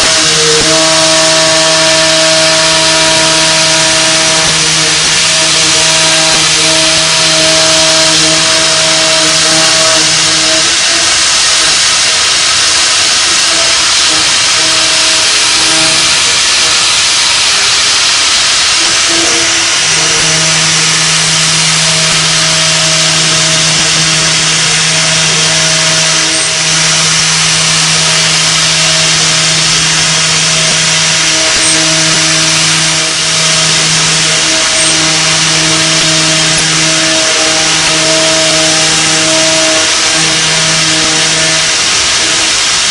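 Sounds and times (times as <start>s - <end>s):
machine hum: 0.0s - 42.9s
milling machine cutting hiss: 0.0s - 42.9s.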